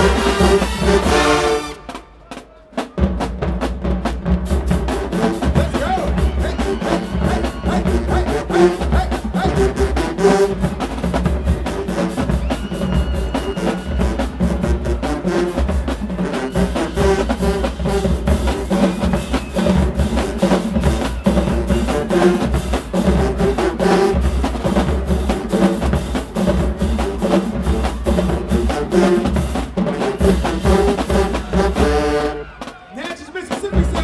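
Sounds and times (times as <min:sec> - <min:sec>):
marching band playing: 0:00.0 - 0:34.0
snare and tenor drum strikes: 0:00.0 - 0:34.0
pounding bass drums: 0:03.0 - 0:32.2.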